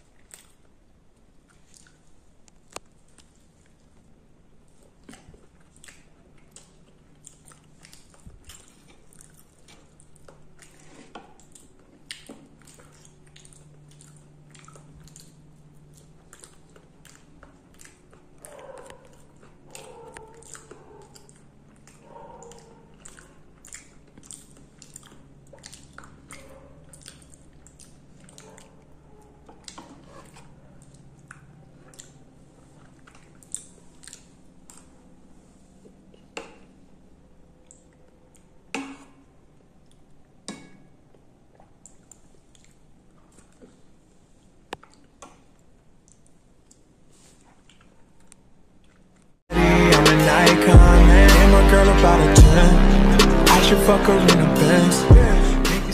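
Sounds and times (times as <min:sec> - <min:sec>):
person chewing food: 0:00.0 - 0:36.7, 0:41.0 - 0:49.4.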